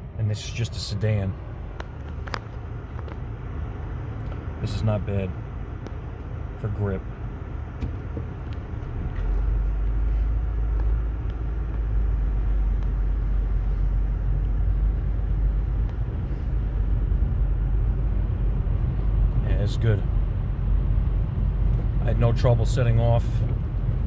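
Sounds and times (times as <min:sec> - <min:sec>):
car driving on snow rumble: 0:00.0 - 0:24.0.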